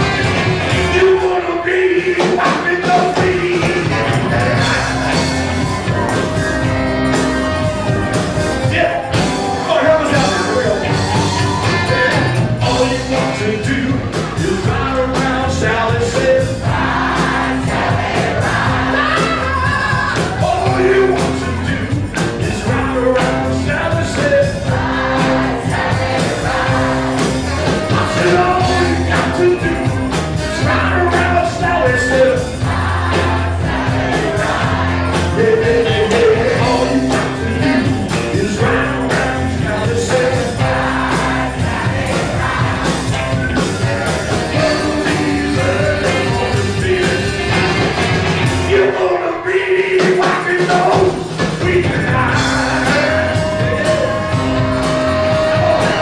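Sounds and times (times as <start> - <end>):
steady drum beat: 0.0 - 49.0, 49.7 - 56.0
repeating bass line: 0.0 - 56.0
voices singing together: 0.0 - 56.0.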